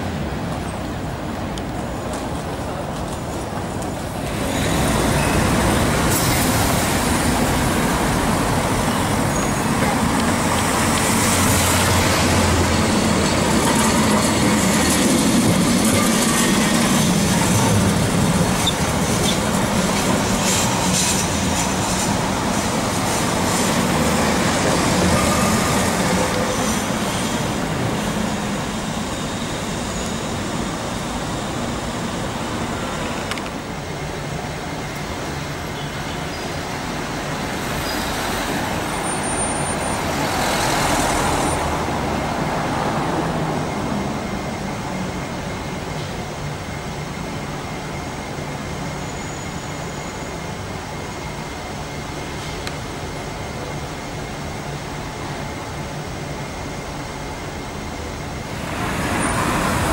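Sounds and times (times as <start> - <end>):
street traffic: 0.0 - 59.9
tram wheels rumbling on rails: 0.0 - 59.9.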